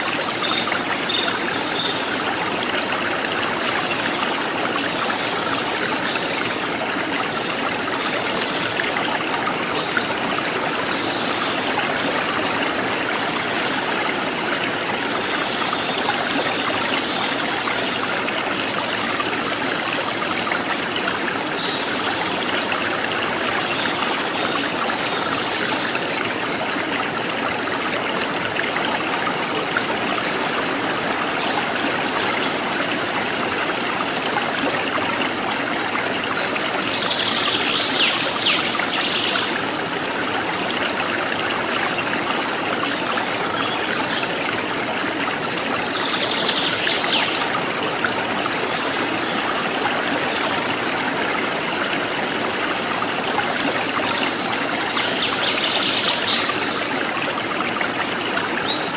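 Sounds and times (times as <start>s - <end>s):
stream trickling and gurgling: 0.0s - 58.9s.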